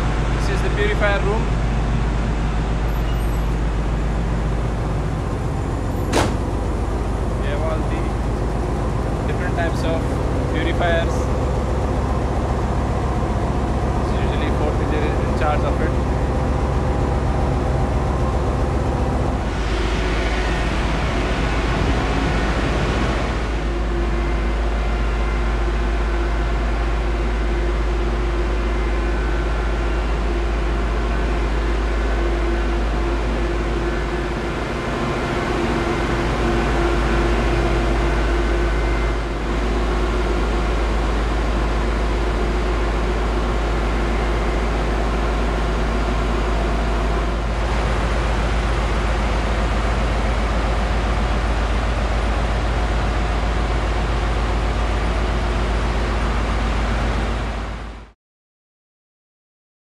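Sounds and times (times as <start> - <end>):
engine room machinery drone: 0.0 - 58.2
steady hum: 3.6 - 58.1.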